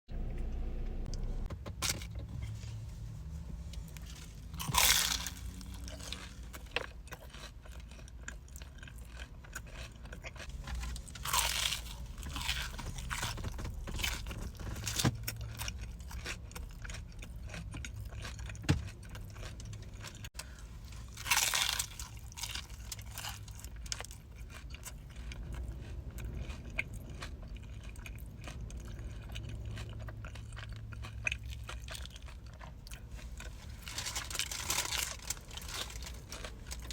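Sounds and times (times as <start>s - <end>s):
crunchy biting and chewing: 3.8s - 36.9s.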